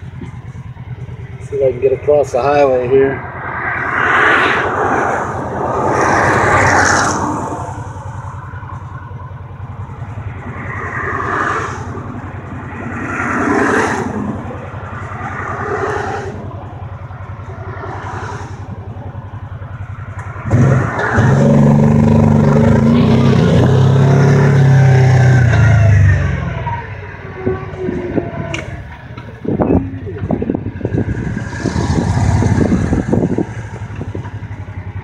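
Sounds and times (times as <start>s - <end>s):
engine accelerating away: 0.0s - 35.0s
highway traffic whooshing: 0.0s - 35.0s
vehicle engine idling: 0.0s - 35.0s.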